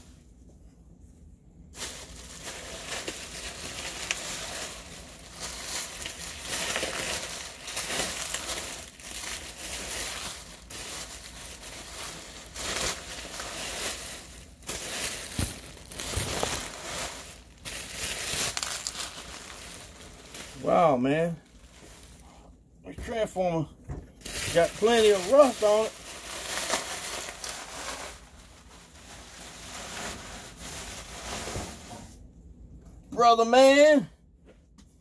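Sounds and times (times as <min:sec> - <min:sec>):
bubble wrap crinkling: 0:01.6 - 0:22.4, 0:24.2 - 0:32.1.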